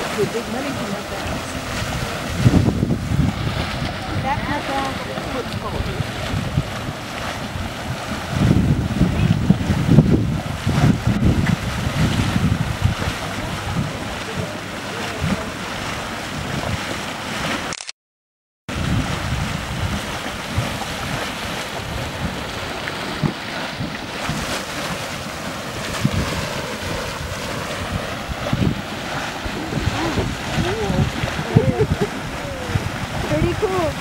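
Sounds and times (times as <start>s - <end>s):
wind buffeting microphone: 0.0s - 17.6s, 18.7s - 34.0s
mud pot churning: 0.0s - 17.7s, 18.7s - 34.0s.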